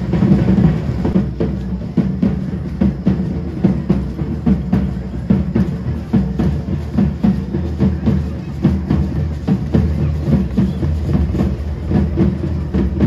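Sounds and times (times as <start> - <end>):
drums beating brisk rhythm: 0.0 - 13.0.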